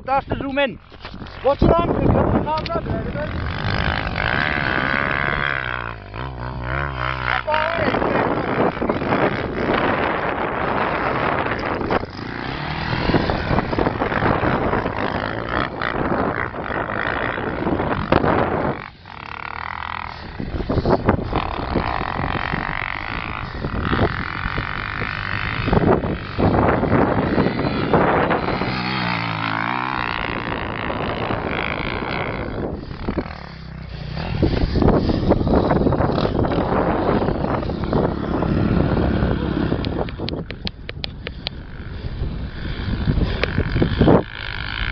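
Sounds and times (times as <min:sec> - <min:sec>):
motocross bike engine revving: 0:00.2 - 0:44.9.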